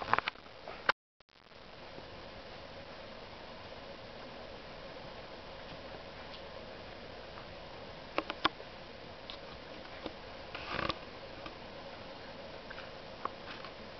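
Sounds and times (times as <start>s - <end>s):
faint steady hum: 0.0s - 13.9s.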